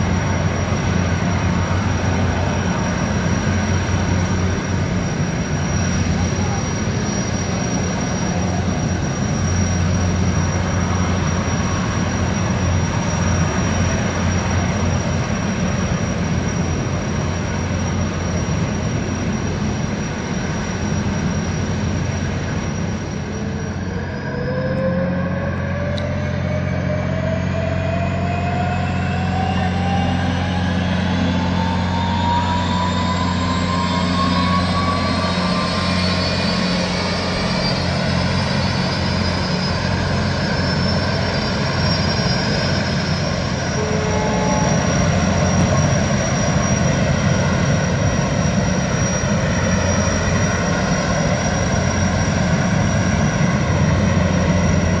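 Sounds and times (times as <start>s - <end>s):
gas turbines humming: 0.0s - 55.0s
high turbine whine: 0.0s - 55.0s
rising whine: 0.0s - 55.0s.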